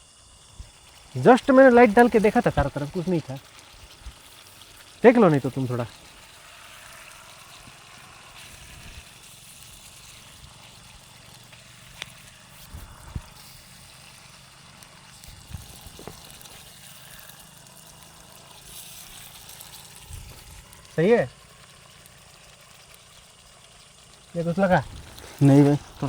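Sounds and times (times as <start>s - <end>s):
chicken sizzling in pan: 0.0s - 26.0s.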